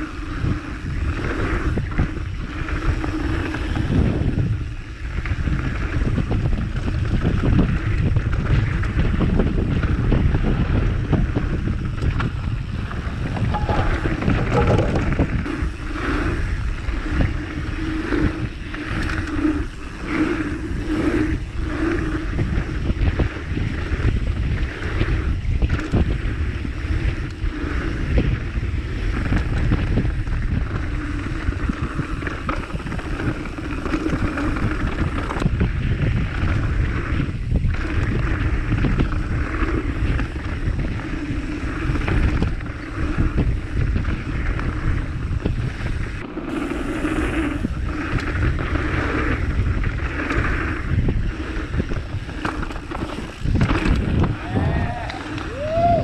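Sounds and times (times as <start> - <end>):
rushing rumble: 0.0 - 56.0
wind buffeting microphone: 0.0 - 56.0.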